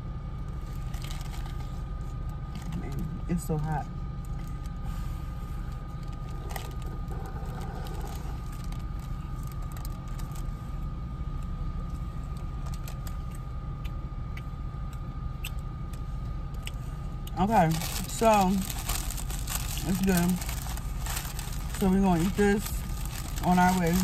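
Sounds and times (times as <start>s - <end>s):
car engine idling: 0.0s - 24.0s
thin steady whine: 0.0s - 24.0s.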